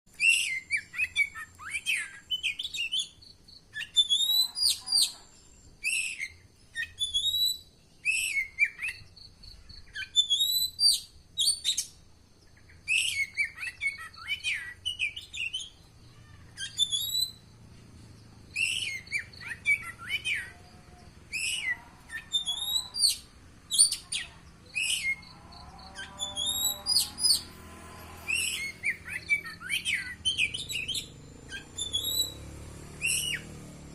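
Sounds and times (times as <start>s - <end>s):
bird singing sharp chirps: 0.1s - 33.9s.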